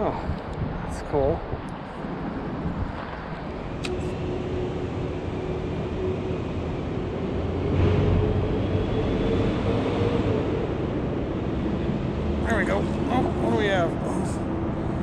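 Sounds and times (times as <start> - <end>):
rumble of road traffic: 0.0 - 15.0.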